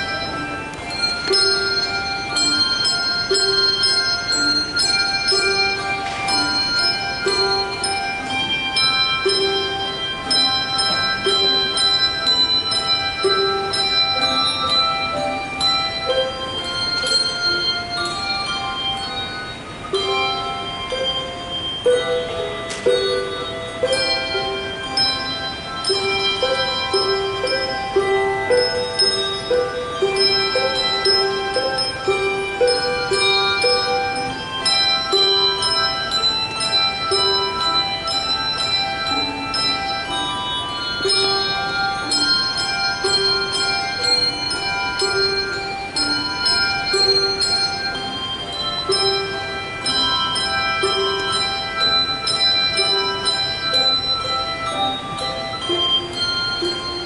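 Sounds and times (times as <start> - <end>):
handbells ringing: 0.0 - 57.0.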